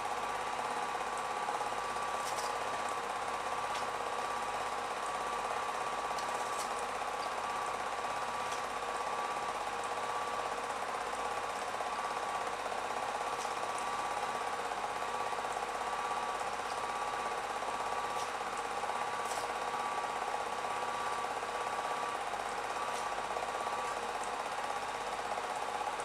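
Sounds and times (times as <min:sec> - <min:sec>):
film projector whirring and rattling: 0:00.0 - 0:26.0.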